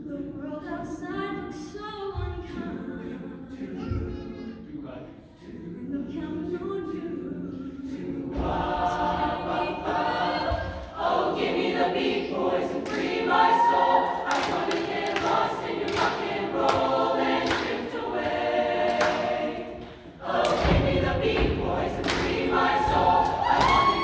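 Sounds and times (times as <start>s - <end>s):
choir singing sustained chords: 2.6s - 24.0s.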